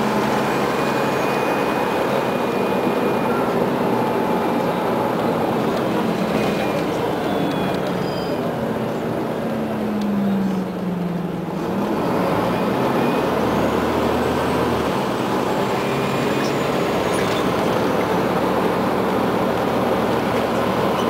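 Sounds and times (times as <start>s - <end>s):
bus engine: 0.0s - 21.0s
road noise: 0.0s - 21.0s.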